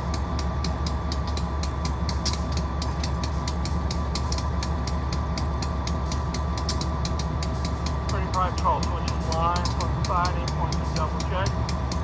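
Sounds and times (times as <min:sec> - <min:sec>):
freight train rumble: 0:00.0 - 0:12.0.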